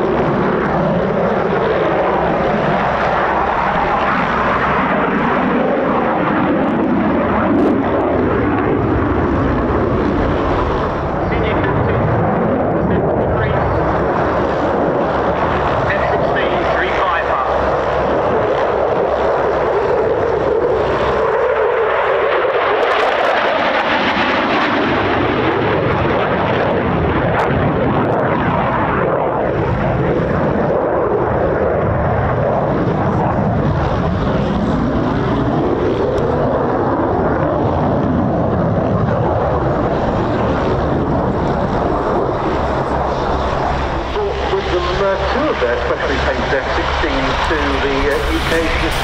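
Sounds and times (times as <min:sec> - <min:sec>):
fighter jet roar: 0:00.0 - 0:49.0.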